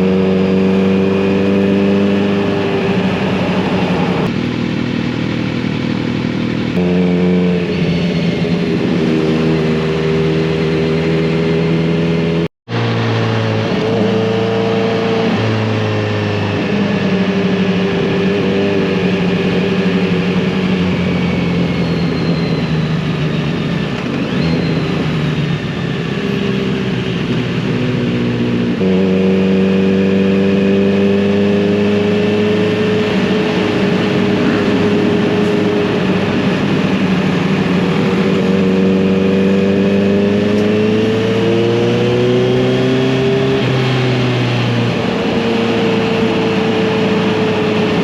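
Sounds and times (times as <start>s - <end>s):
motorcycle engine and exhaust: 0.0s - 48.0s.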